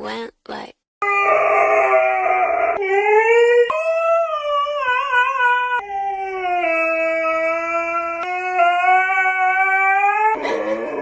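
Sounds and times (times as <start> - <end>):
dog howling: 1.0 - 11.0.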